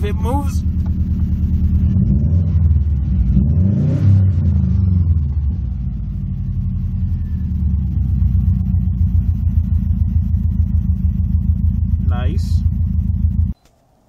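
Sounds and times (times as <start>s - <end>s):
car engine idling and revving: 0.0s - 13.6s.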